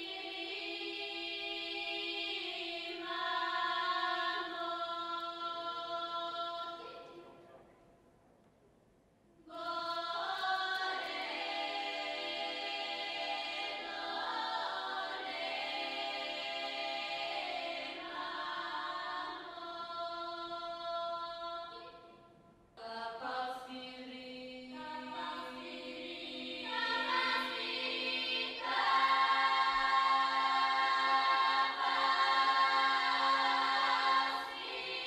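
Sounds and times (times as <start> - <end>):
choir singing long held chords: 0.0 - 7.1, 9.5 - 22.2, 22.8 - 35.0.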